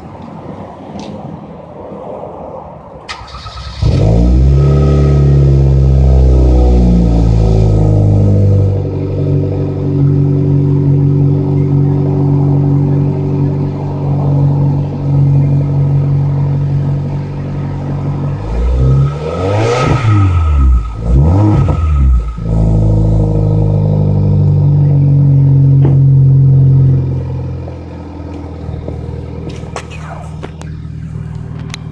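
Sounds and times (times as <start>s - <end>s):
car engine idling: 3.1s - 31.9s
engine revving: 3.1s - 31.9s.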